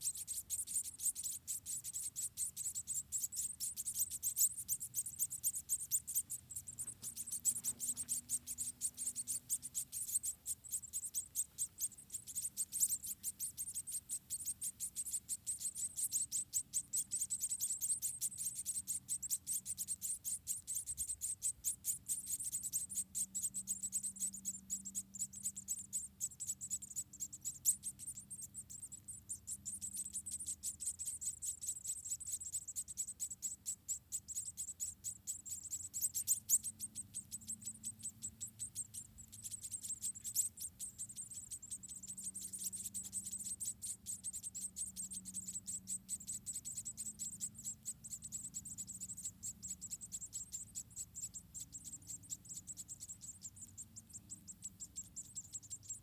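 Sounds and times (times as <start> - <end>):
crickets chirping: 0.0 - 56.0
faint low hum: 0.0 - 56.0.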